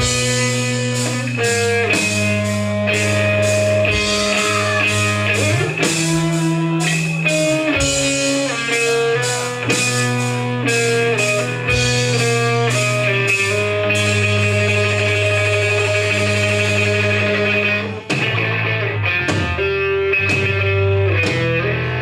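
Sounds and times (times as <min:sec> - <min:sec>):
drums with cymbals: 0:00.0 - 0:22.0
electric guitars and bass chords: 0:00.0 - 0:22.0.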